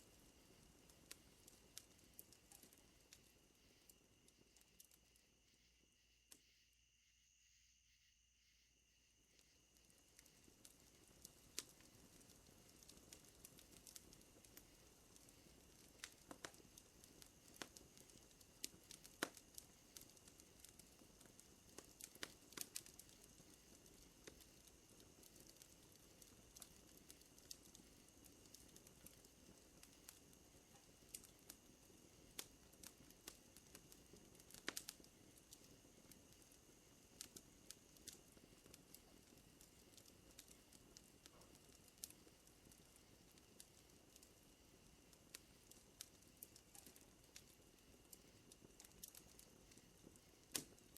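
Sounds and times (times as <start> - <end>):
wood fire crackling and popping: 0.0 - 5.2, 9.3 - 50.9
soft hiss: 0.0 - 50.9.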